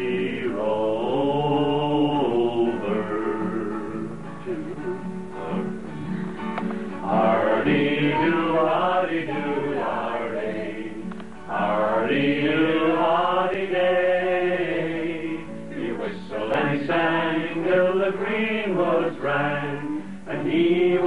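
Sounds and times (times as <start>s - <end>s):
men singing long held notes: 0.0s - 4.3s, 7.0s - 21.0s.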